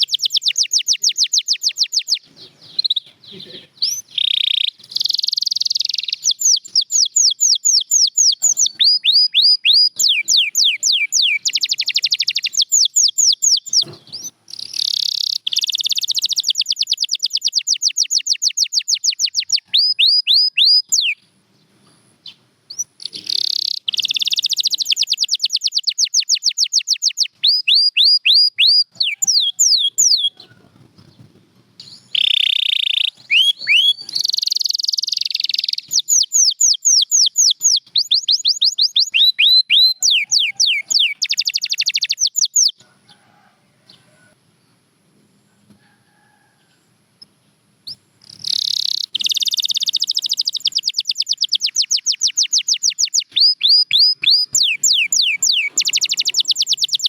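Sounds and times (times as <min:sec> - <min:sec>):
canary singing trills: 0:00.0 - 0:21.3, 0:22.2 - 0:43.3, 0:47.8 - 0:57.0.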